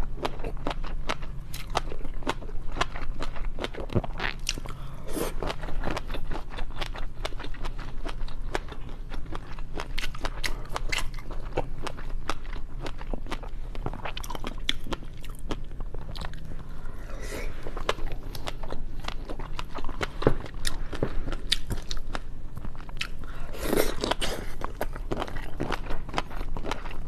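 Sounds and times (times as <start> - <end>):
chewing crunchy seafood: 0.0 - 27.0.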